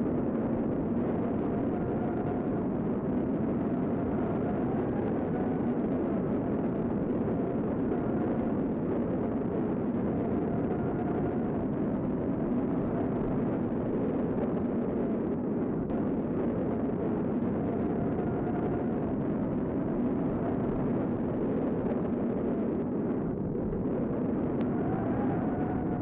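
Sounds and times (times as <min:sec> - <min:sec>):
tornado wind roaring: 0:00.0 - 0:26.0.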